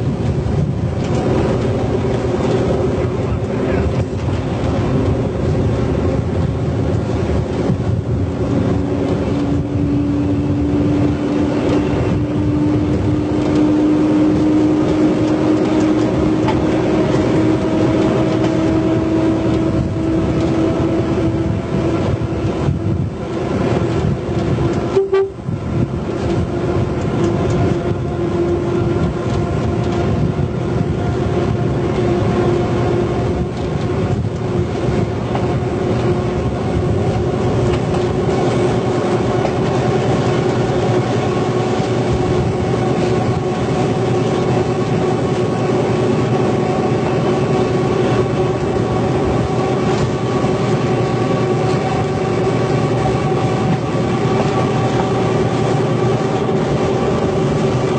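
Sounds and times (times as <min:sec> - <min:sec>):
train rolling drone: 0:00.0 - 0:57.9.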